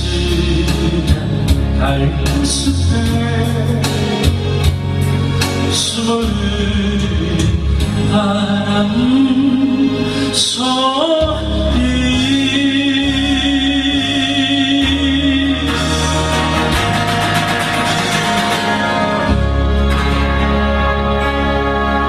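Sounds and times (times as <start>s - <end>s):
slow ballad accompaniment: 0.0s - 22.0s.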